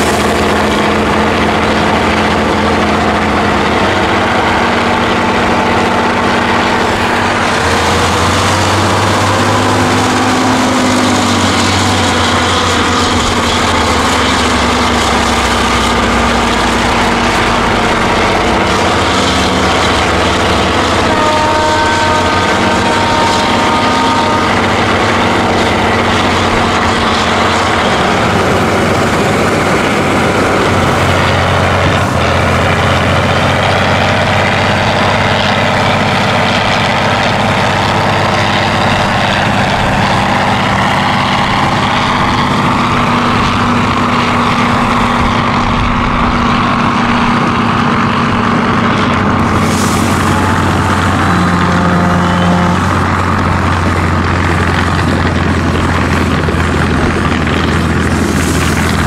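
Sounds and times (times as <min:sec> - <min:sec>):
diesel truck engines revving: 0:00.0 - 0:59.0.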